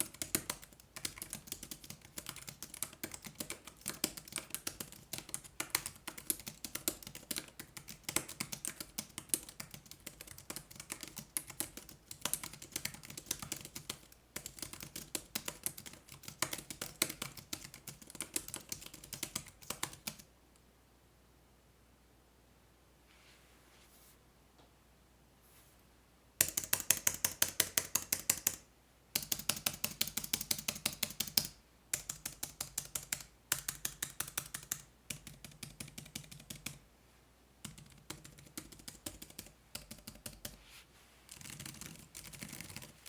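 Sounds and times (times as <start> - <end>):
keyboard typing: 0.0 - 20.2, 26.4 - 28.6, 29.2 - 36.8, 37.6 - 40.6, 41.3 - 43.0.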